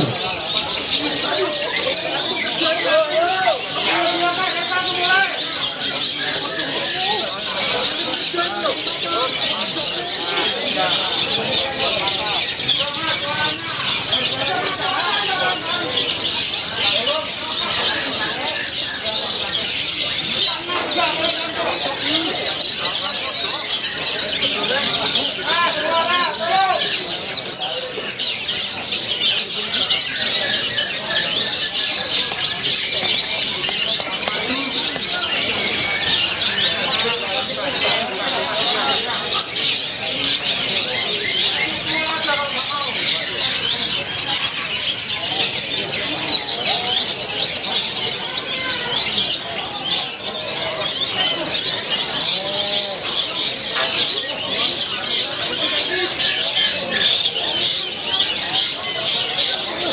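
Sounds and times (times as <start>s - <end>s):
faint human voices: 0.0s - 59.9s
songbirds chattering and whistling: 0.0s - 59.9s.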